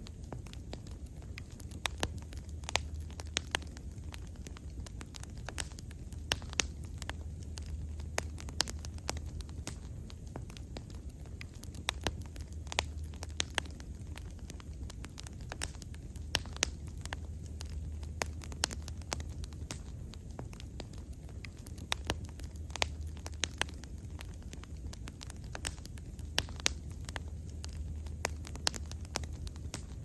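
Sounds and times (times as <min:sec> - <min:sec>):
low rumble of flame: 0:00.0 - 0:30.0
wood fire crackling and popping: 0:00.0 - 0:30.0.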